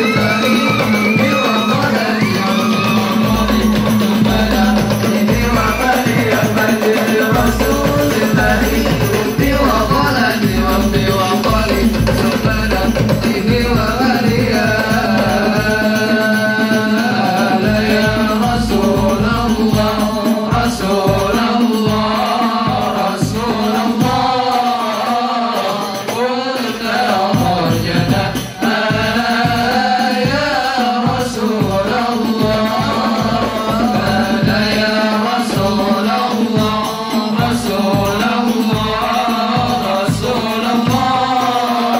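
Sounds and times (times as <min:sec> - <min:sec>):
frame drums beating: 0:00.0 - 0:41.9.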